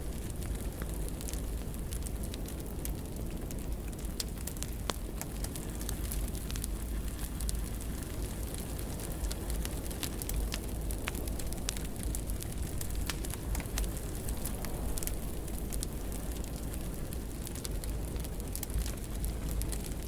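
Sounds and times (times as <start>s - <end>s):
fire crackling and popping: 0.0s - 20.0s
fire flames rumbling: 0.0s - 20.0s.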